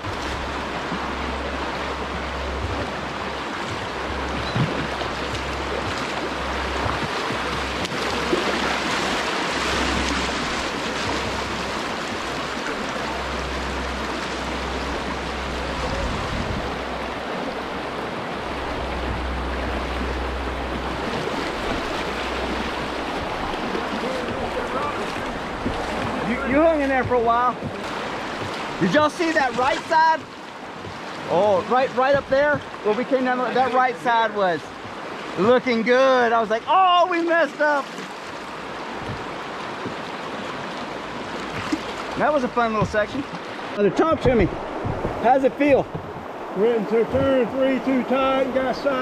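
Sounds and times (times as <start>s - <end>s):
whitewater rushing over rocks: 0.0s - 49.0s.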